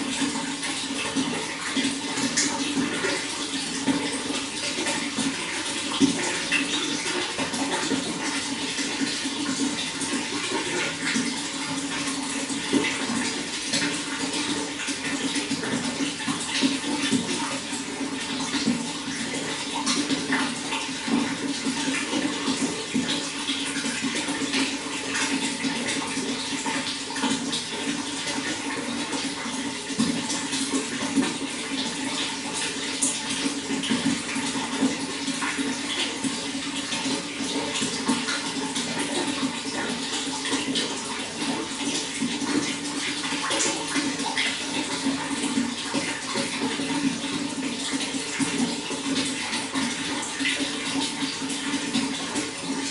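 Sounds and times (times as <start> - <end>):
running water splashing: 0.0 - 52.9.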